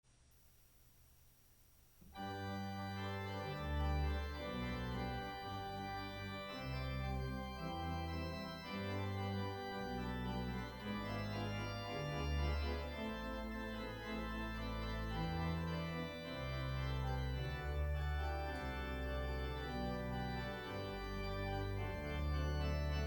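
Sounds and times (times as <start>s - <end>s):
church organ chords: 2.1s - 23.0s.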